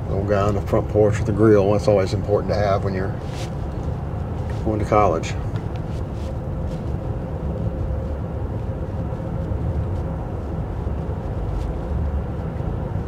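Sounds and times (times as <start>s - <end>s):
car engine and road rumble: 0.0s - 13.0s
faint steady hum: 0.0s - 13.0s.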